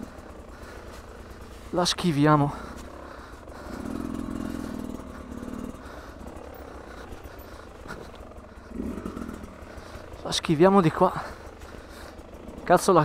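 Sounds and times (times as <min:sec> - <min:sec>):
two-stroke motorcycle engine: 0:00.0 - 0:13.0.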